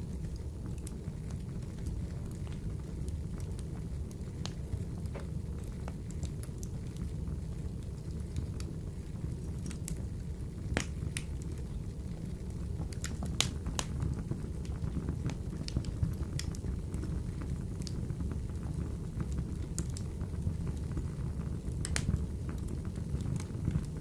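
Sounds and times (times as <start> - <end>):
fire crackles and pops: 0.0 - 24.0
wood fire rumbling in stove: 0.0 - 24.0.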